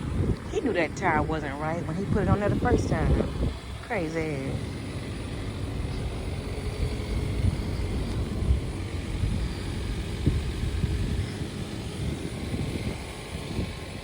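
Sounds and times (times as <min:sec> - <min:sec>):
car rumbling on the move: 0:00.0 - 0:14.0.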